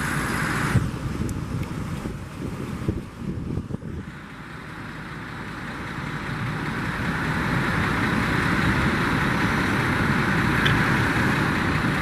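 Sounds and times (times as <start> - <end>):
heavy engine rumbling: 0.0 - 12.0.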